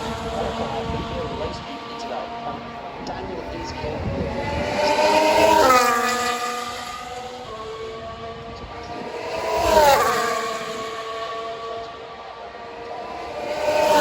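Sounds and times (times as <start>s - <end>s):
racing cars passing by: 0.0s - 14.0s.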